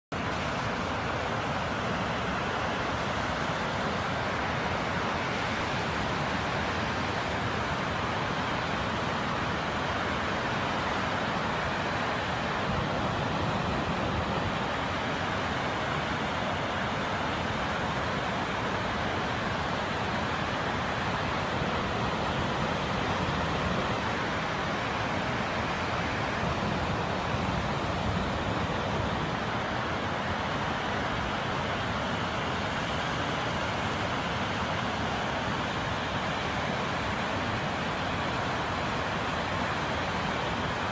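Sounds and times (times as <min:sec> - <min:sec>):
waterfall rushing: 0:00.1 - 0:40.9.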